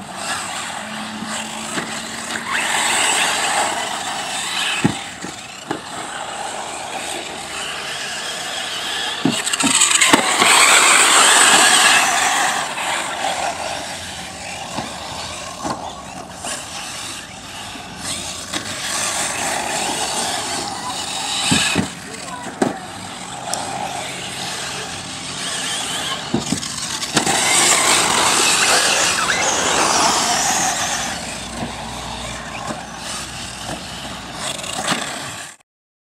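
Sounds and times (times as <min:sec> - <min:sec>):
rc car motors whirring on dirt: 0:00.0 - 0:35.6.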